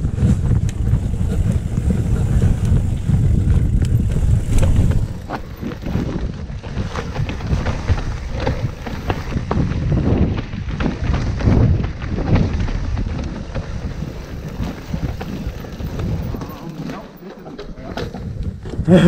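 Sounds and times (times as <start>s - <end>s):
bike clicks and rattles: 0.0s - 19.0s
wind rumbling on microphone: 0.0s - 19.0s.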